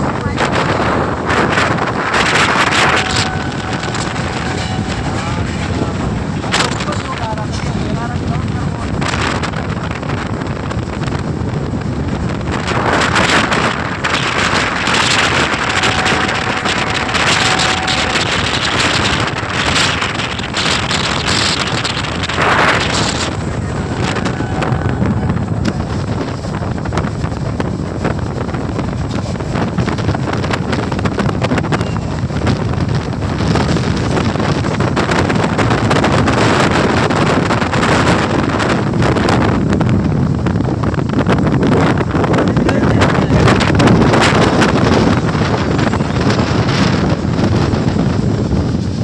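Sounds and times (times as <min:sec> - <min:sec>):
moving train rumble: 0:00.0 - 0:49.0
wind buffeting microphone: 0:00.0 - 0:49.0.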